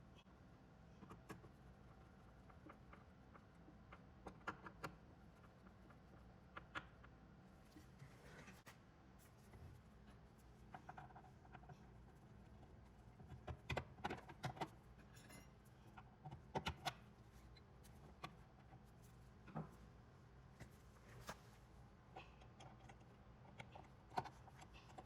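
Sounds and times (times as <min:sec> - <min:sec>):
faint low room hum: 0:00.0 - 0:25.0.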